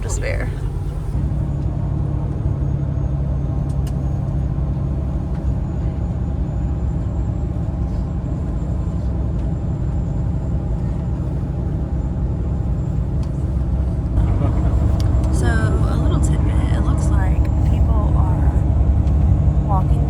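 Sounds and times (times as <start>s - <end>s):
bus engine low rumble: 0.0s - 20.0s.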